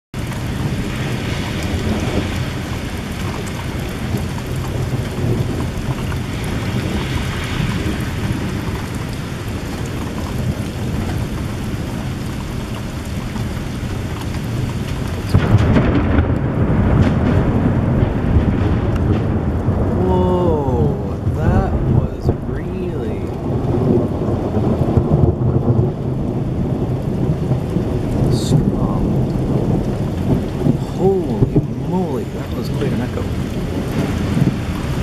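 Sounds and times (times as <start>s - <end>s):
steady rain falling: 0.2s - 35.0s
thunder rumbling: 0.2s - 35.0s.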